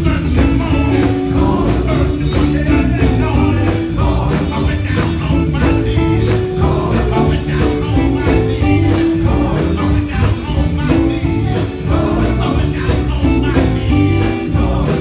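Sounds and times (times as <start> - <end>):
live gospel band music: 0.0 - 15.0.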